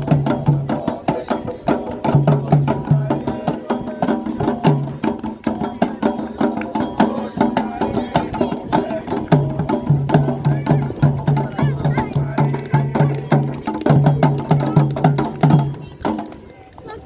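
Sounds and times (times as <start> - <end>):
hand drums in fast rhythm: 0.0 - 17.0.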